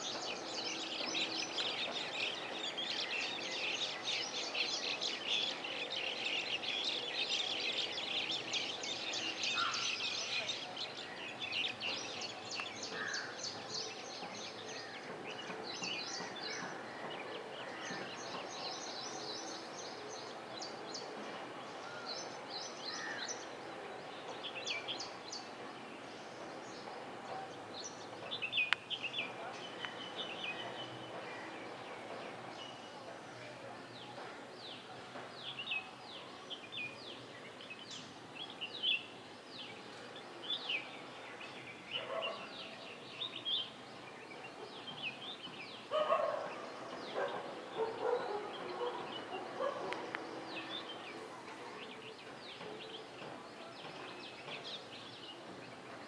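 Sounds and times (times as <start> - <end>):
birds chirping and twittering: 0.0 - 56.0
steady background noise: 0.0 - 56.0.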